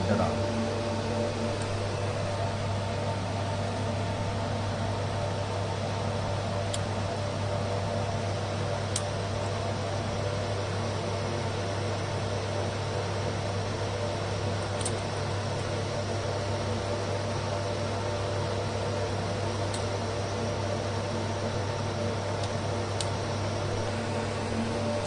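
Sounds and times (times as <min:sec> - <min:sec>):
electrical hum: 0:00.0 - 0:25.0
fan-like hiss: 0:00.0 - 0:25.0.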